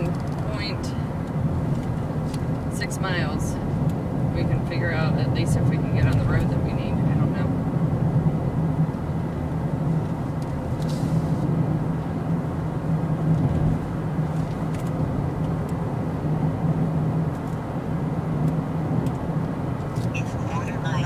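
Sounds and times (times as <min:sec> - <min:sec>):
car road and engine noise: 0:00.0 - 0:21.0
constant low hum: 0:00.0 - 0:21.0.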